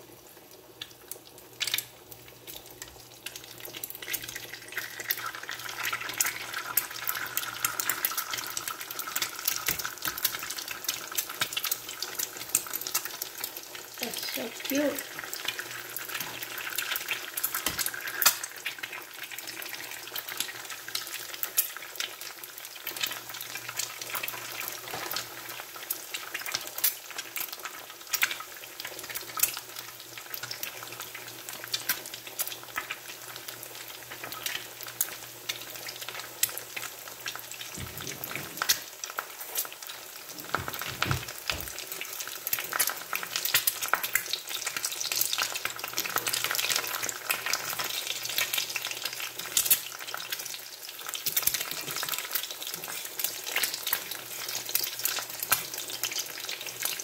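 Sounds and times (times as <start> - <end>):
eggs sizzling in a skillet: 0.0 - 57.0.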